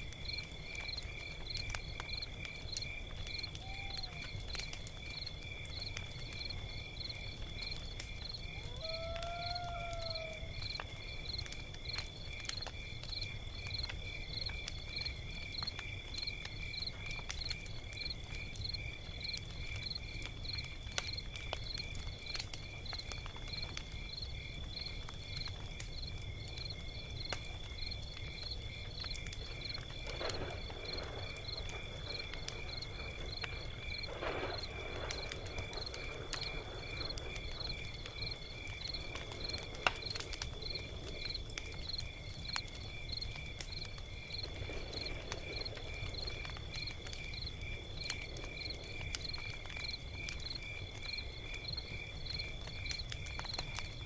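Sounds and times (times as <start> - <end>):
crickets chirping: 0.0 - 54.0
log fire crackling and popping: 0.0 - 54.0.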